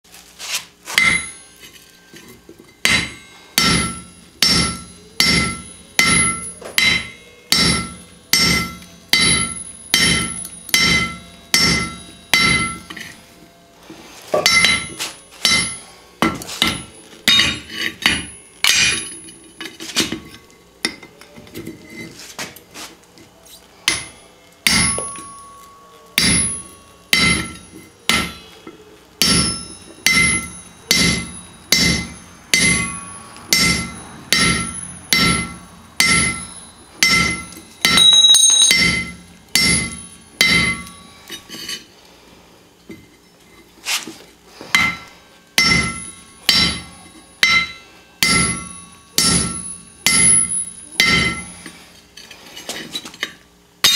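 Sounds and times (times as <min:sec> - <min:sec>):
hammer striking steel with metallic ring: 0:00.9 - 0:13.6, 0:14.3 - 0:21.3, 0:23.8 - 0:41.8, 0:44.7 - 0:51.8, 0:53.2 - 0:53.9.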